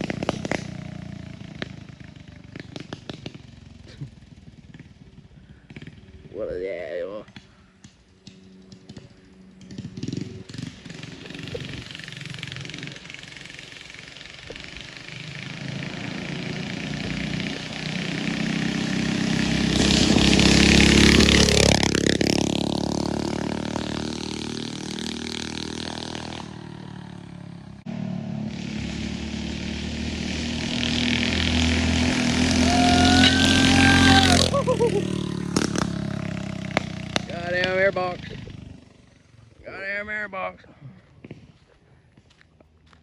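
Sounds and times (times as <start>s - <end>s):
minibike engine passing: 0.0s - 40.3s
nearer engine: 0.0s - 43.0s.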